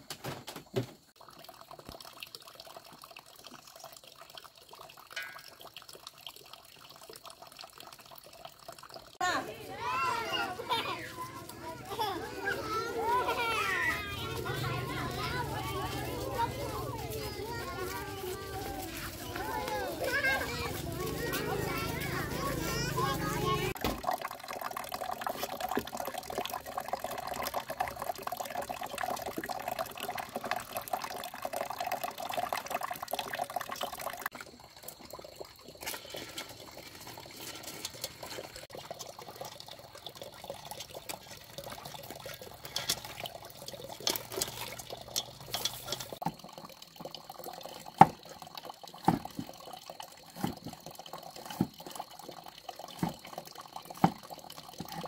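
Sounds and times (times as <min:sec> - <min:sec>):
running water splashing: 0:01.0 - 0:55.0.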